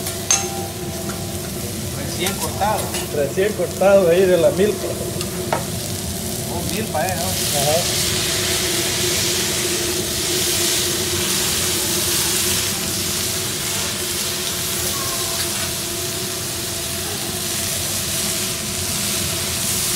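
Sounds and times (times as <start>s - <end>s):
steady hum: 0.0s - 19.9s
vegetables sizzling on a griddle: 0.0s - 19.9s.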